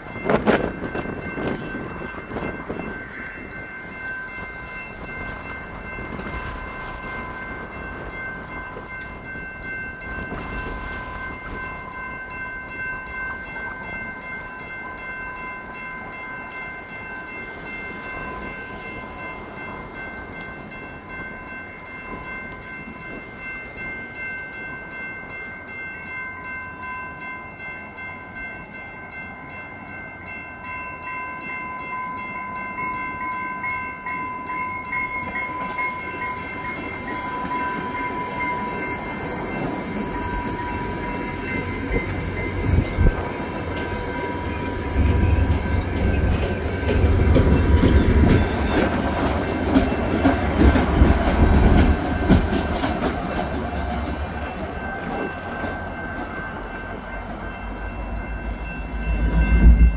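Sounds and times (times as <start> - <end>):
railroad crossing bells ringing: 0.0 - 59.9.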